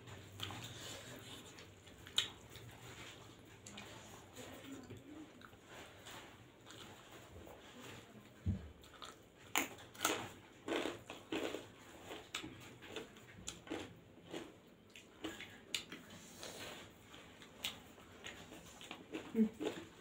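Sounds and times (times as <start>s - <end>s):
chewing and wet mouth sounds: 0.0s - 20.0s.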